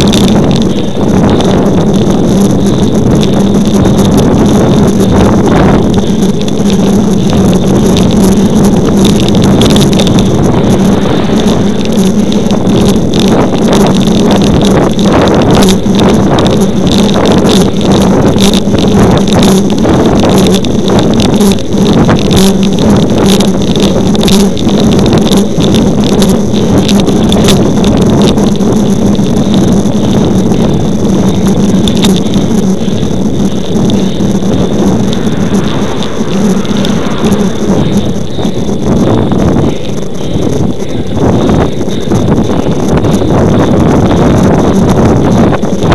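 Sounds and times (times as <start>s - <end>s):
bicycle tyres on asphalt: 0.0s - 45.9s
wind buffeting microphone: 0.0s - 45.9s.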